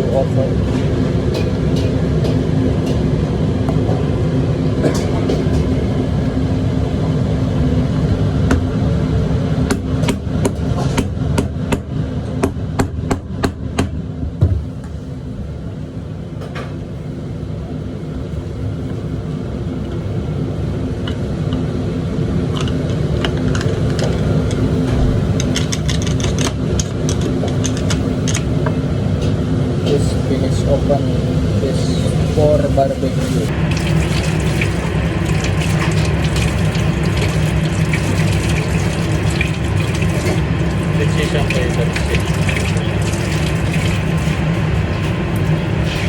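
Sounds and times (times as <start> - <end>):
low rumble with hum: 0.0 - 46.0.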